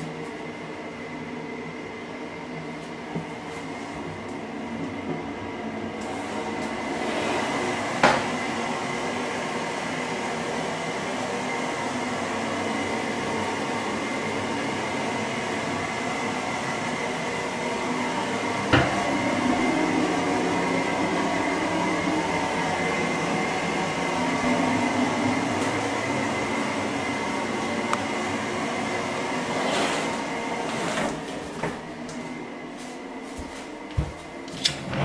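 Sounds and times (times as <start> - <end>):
mechanical hum with high whine: 0.0 - 35.0.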